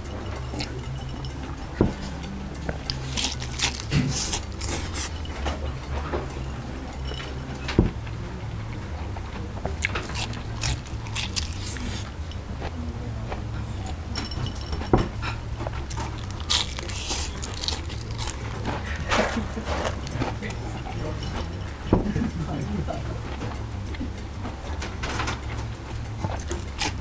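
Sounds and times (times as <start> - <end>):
sharp thumps: 0.0 - 22.4
crunchy chewing: 0.0 - 27.0.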